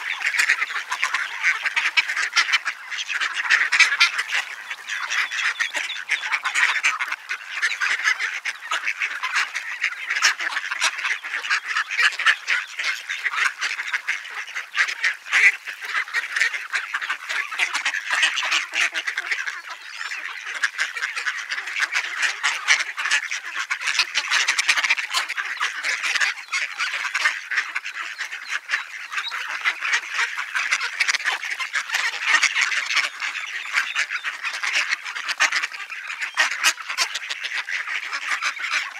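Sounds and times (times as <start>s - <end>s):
ducks quacking: 0.0s - 38.9s.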